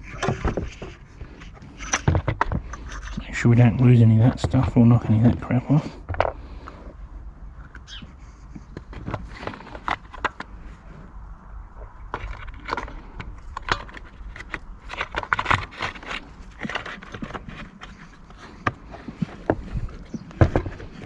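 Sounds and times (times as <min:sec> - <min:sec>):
plastic parts clicking and scraping: 0:00.0 - 0:07.0, 0:07.6 - 0:11.0, 0:11.8 - 0:21.0.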